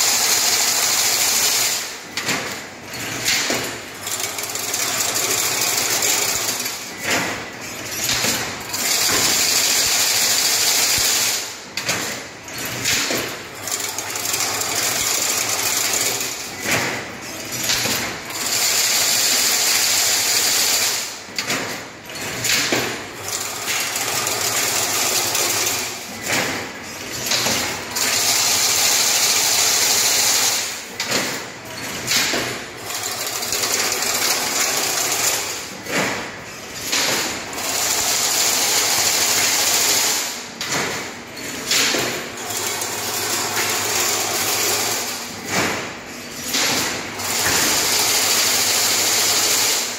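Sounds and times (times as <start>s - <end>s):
machine knocks and clatter: 0.0s - 49.9s.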